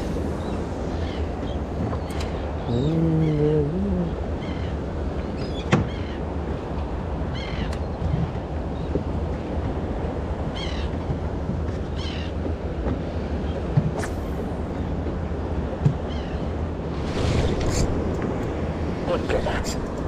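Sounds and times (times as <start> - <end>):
sea noise: 0.0 - 20.0
wind: 0.0 - 20.0.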